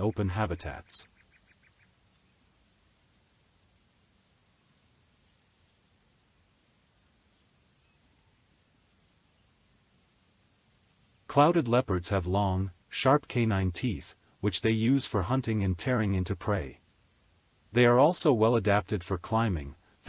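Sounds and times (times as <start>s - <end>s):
high insect trill: 0.0s - 18.1s
faint crickets chirping: 0.0s - 20.0s.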